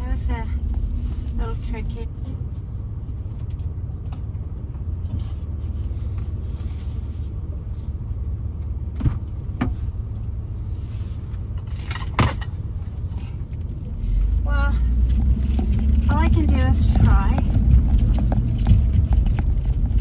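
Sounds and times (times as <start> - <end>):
car engine rumble from cabin: 0.0 - 20.0.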